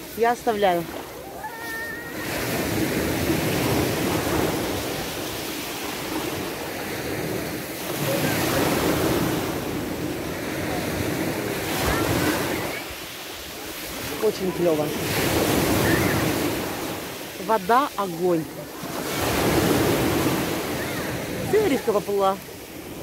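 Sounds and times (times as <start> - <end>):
sea surf washing ashore: 0.0 - 23.0.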